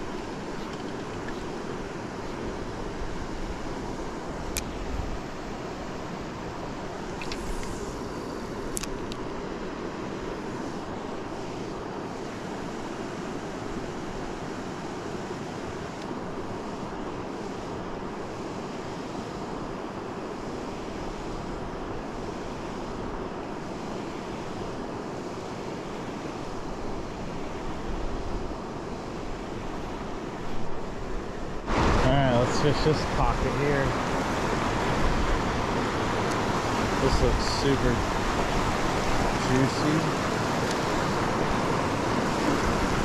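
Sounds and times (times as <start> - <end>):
river water rushing over riffle: 0.0 - 43.0.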